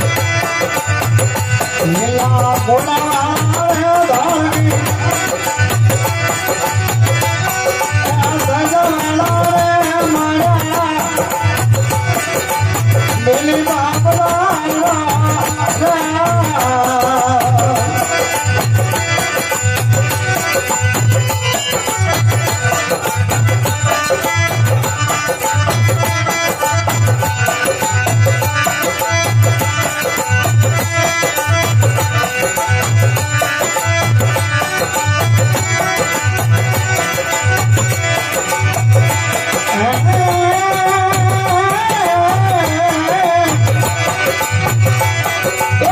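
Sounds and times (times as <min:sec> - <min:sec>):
instrumental accompaniment: 0:00.0 - 0:45.9
person singing melody: 0:00.0 - 0:45.9.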